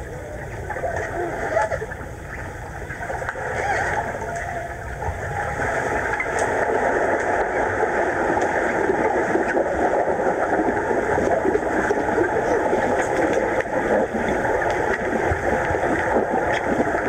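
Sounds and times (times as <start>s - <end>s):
underwater pool water rushing: 0.0s - 17.0s.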